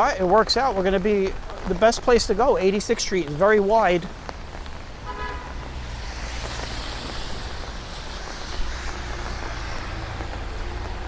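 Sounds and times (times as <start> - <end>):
tyre hiss on wet road: 0.0 - 11.0.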